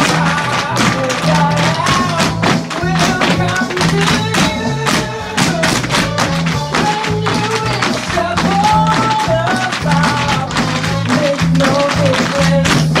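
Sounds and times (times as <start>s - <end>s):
tap shoes on wooden floor: 0.0s - 13.0s
upbeat music with bouncing bass: 0.0s - 13.0s.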